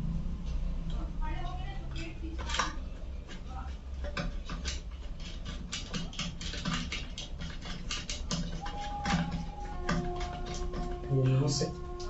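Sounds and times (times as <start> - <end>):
wire and screwdriver clicking and scraping: 1.9 - 12.0.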